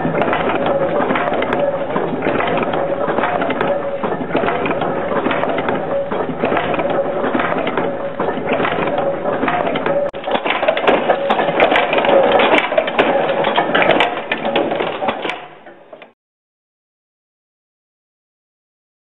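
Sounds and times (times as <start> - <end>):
machine clattering: 0.0 - 16.2
machine hum: 0.0 - 16.2.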